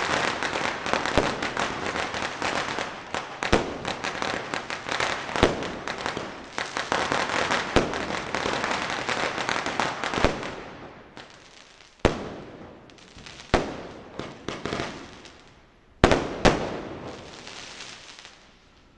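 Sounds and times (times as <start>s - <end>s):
firecrackers banging and crackling: 0.0s - 18.4s.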